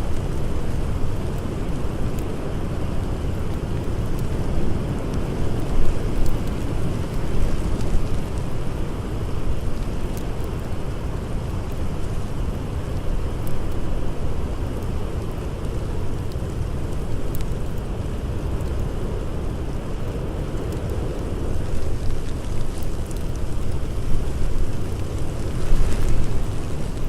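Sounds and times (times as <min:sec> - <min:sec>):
blizzard wind blowing: 0:00.0 - 0:27.0
wood fire crackling: 0:00.0 - 0:27.0.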